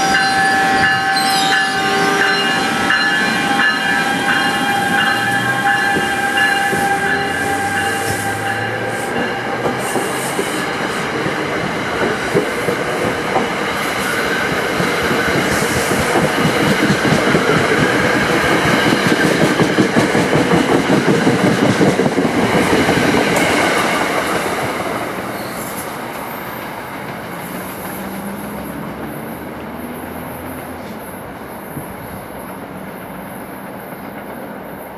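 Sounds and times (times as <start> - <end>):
train wheels clattering on rails: 0.0 - 34.9.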